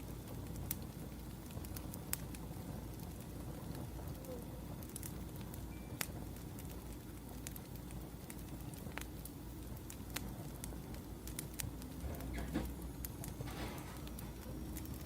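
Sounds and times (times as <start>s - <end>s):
low room hum: 0.0s - 15.0s
wood fire crackling and popping: 0.0s - 15.0s.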